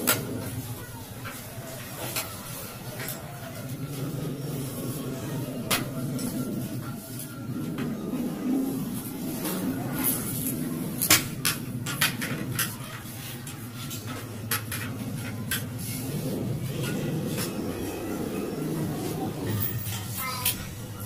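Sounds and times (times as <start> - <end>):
steady low rumble: 2.7 - 19.9.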